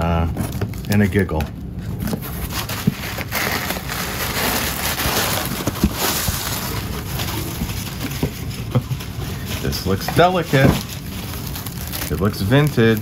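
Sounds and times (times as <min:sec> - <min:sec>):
packing paper rustling: 0:00.2 - 0:13.0.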